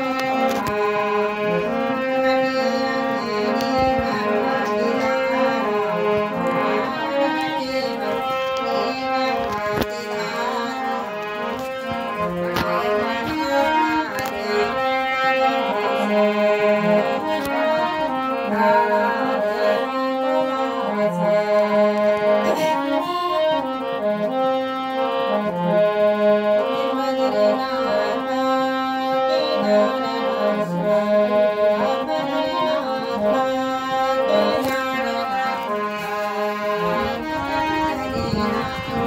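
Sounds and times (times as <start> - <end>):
harmonium playing: 0.0 - 39.0.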